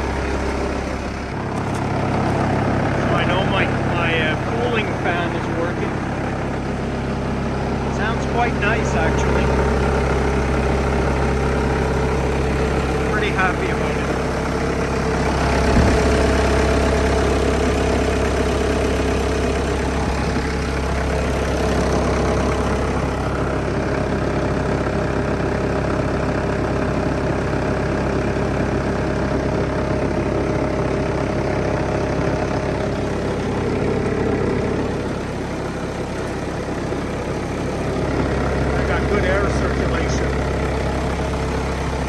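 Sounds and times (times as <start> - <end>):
cooling fan turning: 0.0 - 42.0
diesel engine idling: 0.0 - 42.0.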